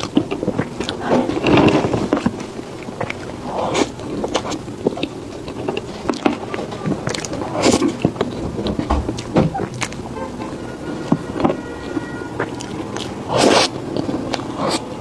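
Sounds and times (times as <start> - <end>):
chewing soft cake: 0.0 - 15.0.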